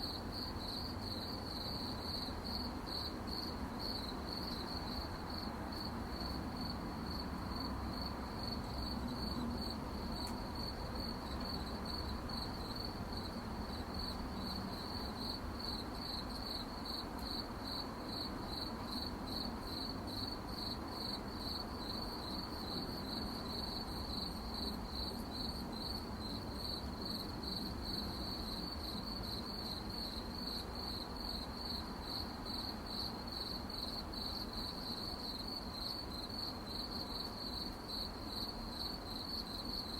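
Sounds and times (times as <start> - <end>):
crickets chirping: 0.0 - 39.9
faint low background hiss: 0.0 - 39.9.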